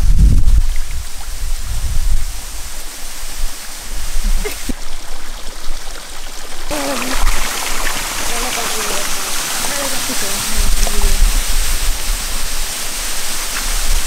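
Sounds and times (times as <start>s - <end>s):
water gushing into a pool: 0.4s - 14.0s.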